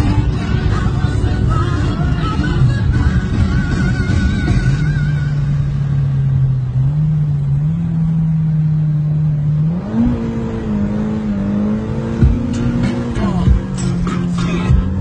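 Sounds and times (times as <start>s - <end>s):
car engine at high revs: 0.0s - 15.0s.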